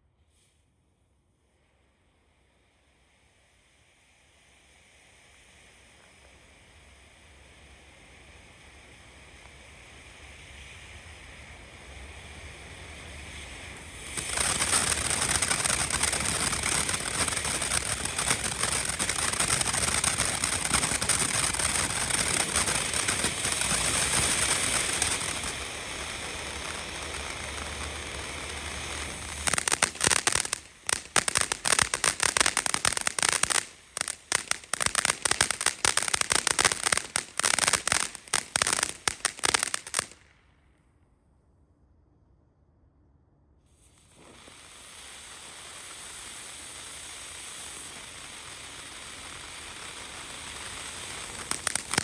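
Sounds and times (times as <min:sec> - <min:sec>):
firework fountain hissing: 0:01.4 - 0:40.3, 0:43.7 - 0:52.0
firework crackling: 0:04.0 - 0:40.4, 0:43.8 - 0:52.0.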